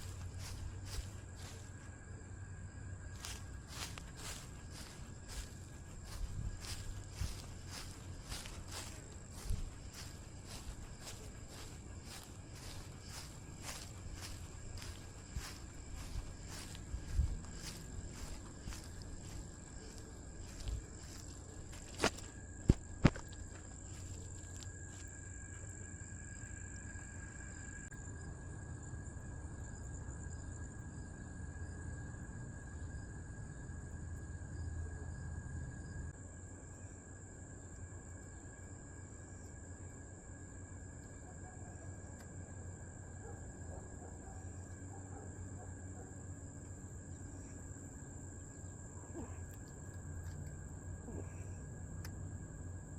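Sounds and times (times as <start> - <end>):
crickets trilling: 0.0 - 52.9.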